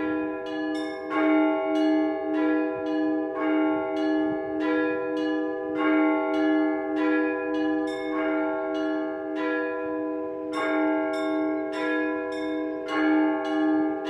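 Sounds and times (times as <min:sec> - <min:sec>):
church bells struck: 0:00.0 - 0:14.0
lower bell ringing: 0:00.0 - 0:14.0.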